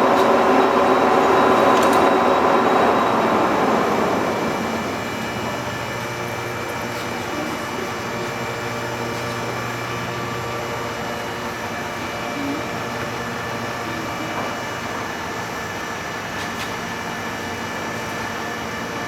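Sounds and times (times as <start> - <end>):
lathe running hum: 0.0 - 19.0.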